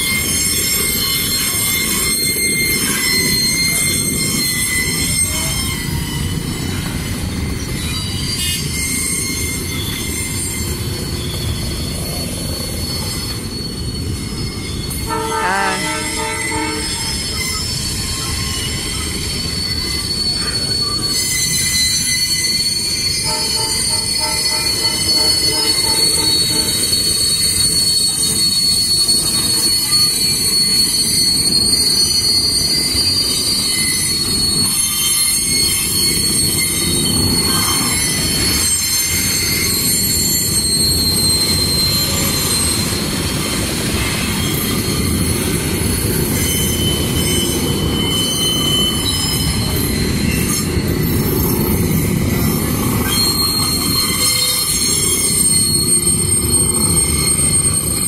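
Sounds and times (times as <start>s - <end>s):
high-pitched metal squeal: 0.0s - 58.0s
train wheels rumbling on rails: 0.0s - 58.0s.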